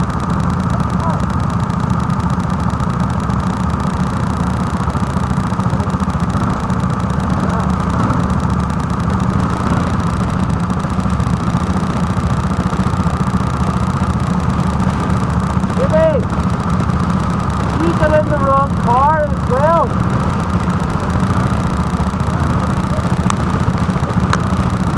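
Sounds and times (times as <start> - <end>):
go-kart engine idling: 0.0 - 24.9.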